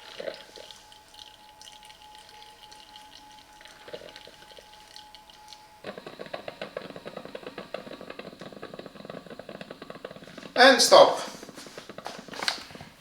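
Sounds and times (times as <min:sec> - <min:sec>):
water dripping: 0:00.0 - 0:12.5
coffee machine faint whine: 0:00.0 - 0:13.0
hot water sputtering: 0:00.0 - 0:13.0.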